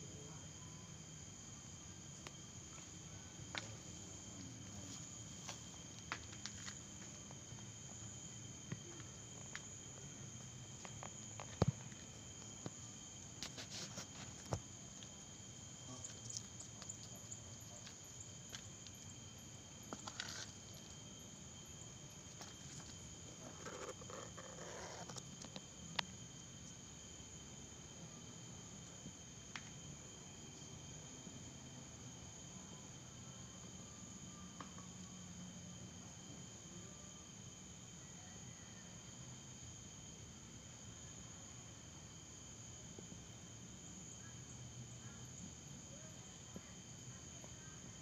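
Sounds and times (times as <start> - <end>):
night insects chirping: 0.0 - 48.0.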